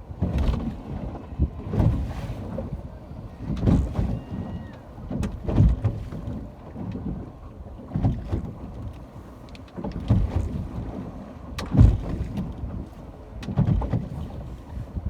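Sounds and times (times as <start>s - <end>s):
ocean water surging and splashing: 0.0s - 15.0s
wind buffeting microphone: 0.0s - 15.0s.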